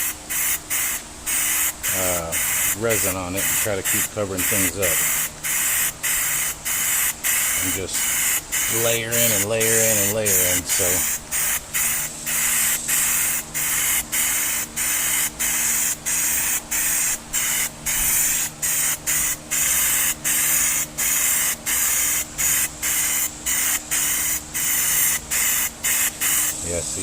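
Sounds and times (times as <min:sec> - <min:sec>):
paint spray hissing: 0:00.0 - 0:27.0.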